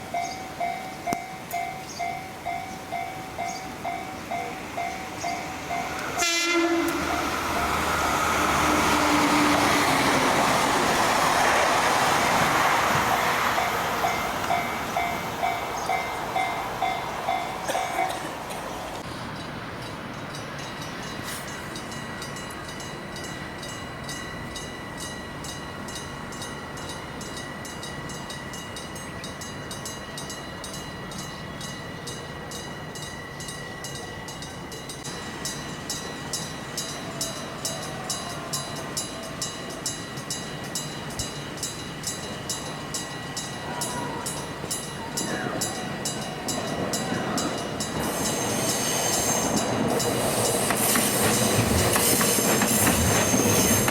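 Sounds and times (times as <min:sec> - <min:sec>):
crossing bell ringing: 0:00.0 - 0:53.9
steady high tones: 0:00.0 - 0:53.9
train approaching on rails: 0:00.0 - 0:53.9.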